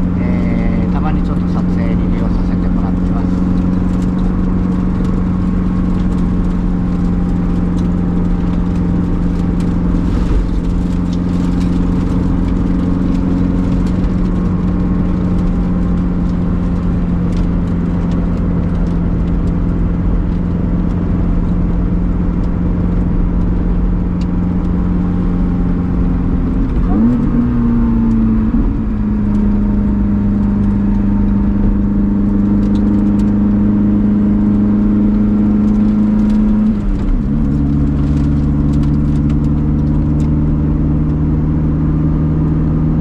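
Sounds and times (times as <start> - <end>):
car engine from inside cabin: 0.0 - 43.0.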